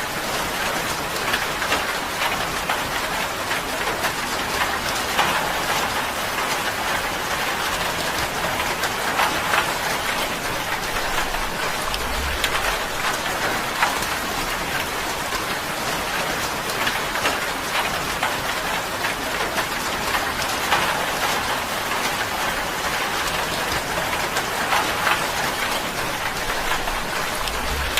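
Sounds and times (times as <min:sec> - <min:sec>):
rain on a tin roof: 0:00.0 - 0:27.9.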